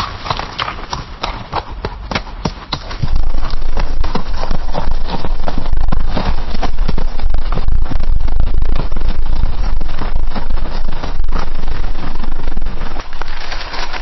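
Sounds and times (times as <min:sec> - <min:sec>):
horse hoofbeats galloping on dirt: 0:00.0 - 0:14.0.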